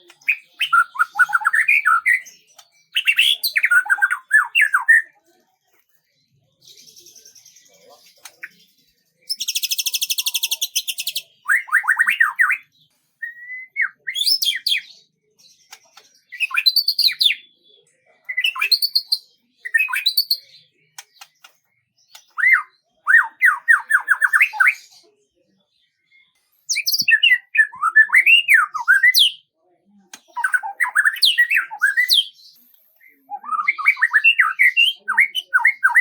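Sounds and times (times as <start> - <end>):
songbird trilling and chirping: 0.0 - 5.1, 6.4 - 25.1, 25.8 - 36.0.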